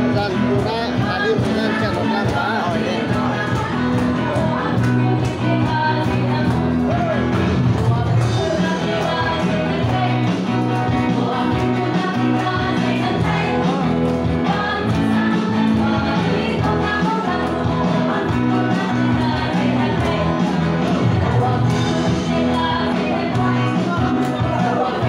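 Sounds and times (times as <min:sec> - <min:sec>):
group singing church song: 0:00.0 - 0:25.0
guitar accompaniment: 0:00.0 - 0:25.0.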